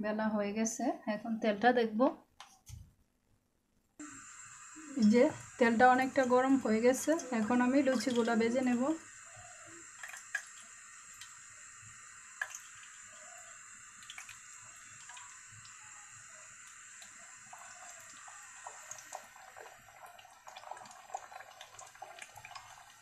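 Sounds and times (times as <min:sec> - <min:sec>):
dough deep-frying in oil: 0:04.0 - 0:23.0.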